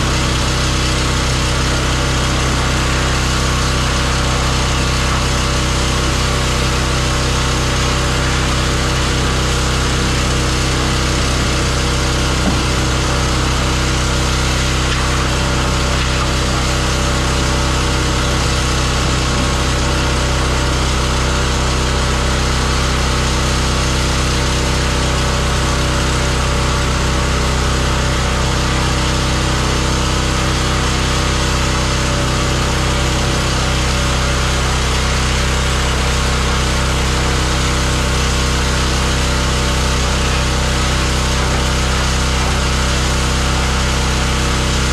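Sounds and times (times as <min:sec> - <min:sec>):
pressure washer engine droning: 0:00.0 - 0:44.9.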